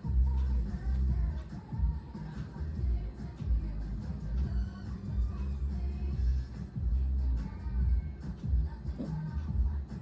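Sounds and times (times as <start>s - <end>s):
music with pulsing bass beat: 0.0s - 10.0s.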